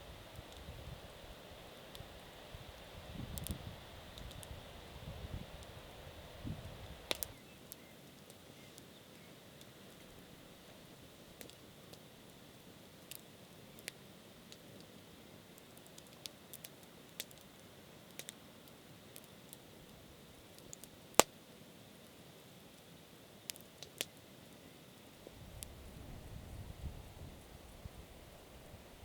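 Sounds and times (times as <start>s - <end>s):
faint steady hiss: 0.0s - 29.0s.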